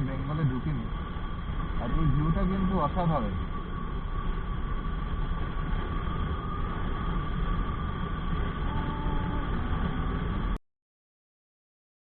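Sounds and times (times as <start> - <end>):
motorcycle engine rumble: 0.0 - 10.6
wind noise: 0.0 - 10.6.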